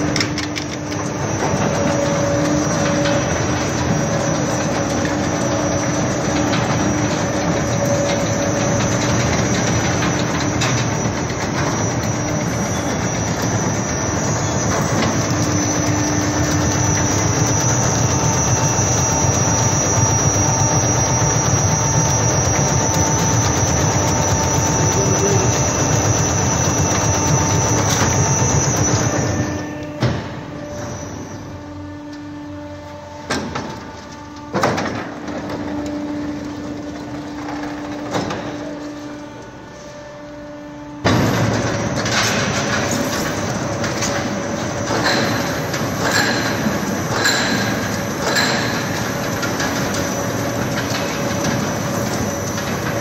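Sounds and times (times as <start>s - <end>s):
baling machine running: 0.0s - 53.0s
high machine whine: 0.0s - 53.0s.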